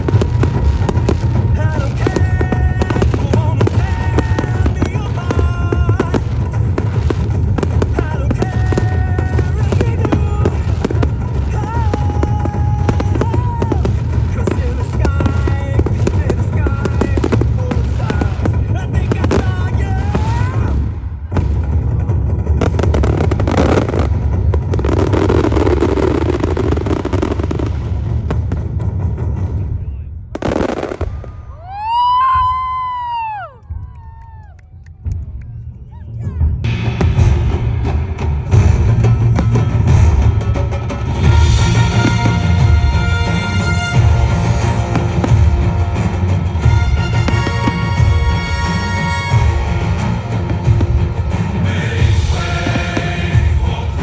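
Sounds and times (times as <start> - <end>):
loud music with held notes: 0.0 - 29.0, 30.4 - 31.0, 36.6 - 54.0
fireworks banging and crackling: 0.0 - 34.2, 36.7 - 54.0.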